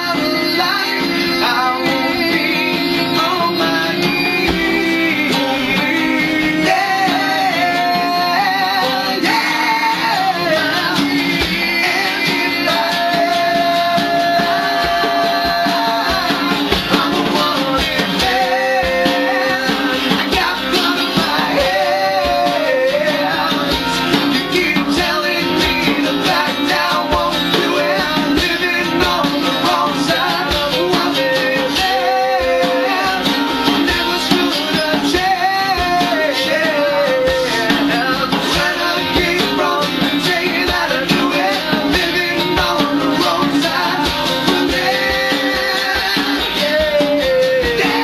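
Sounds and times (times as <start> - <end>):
hand drum: 0.0 - 48.0
strummed acoustic guitar: 0.0 - 48.0.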